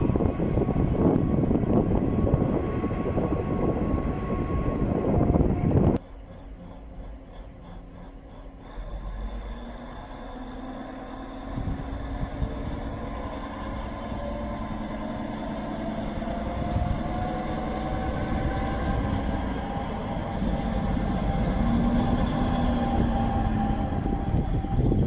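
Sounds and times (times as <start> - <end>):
diesel locomotive rumbling: 0.0 - 25.0
engine whine rising in pitch: 0.0 - 25.0.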